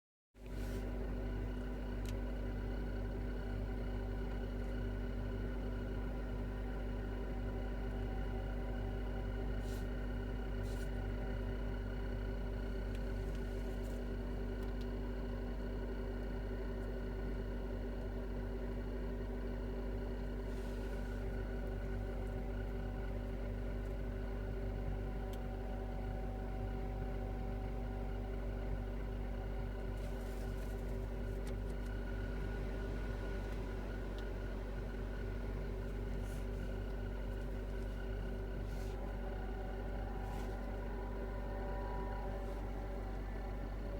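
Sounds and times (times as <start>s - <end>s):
low hum: 0.4s - 43.9s.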